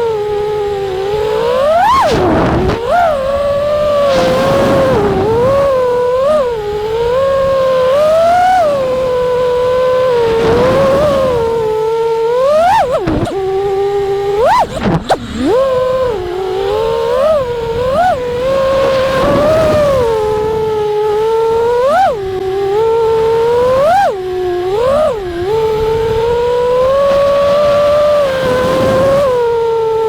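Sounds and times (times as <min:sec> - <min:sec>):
quadcopter motors whining: 0:00.0 - 0:30.0
wind over microphone: 0:00.0 - 0:30.0.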